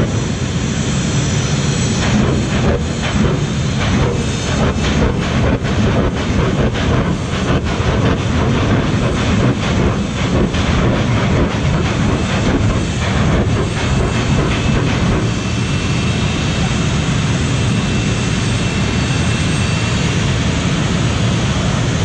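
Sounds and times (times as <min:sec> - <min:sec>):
jet engine roaring: 0:00.0 - 0:22.0.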